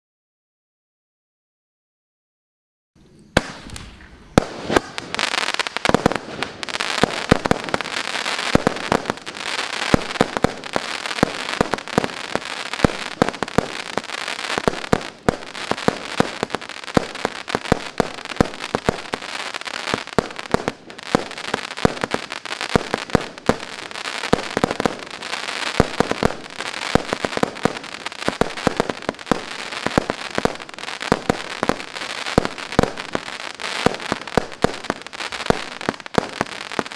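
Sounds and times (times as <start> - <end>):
noisy hiss: 3.0 - 36.9.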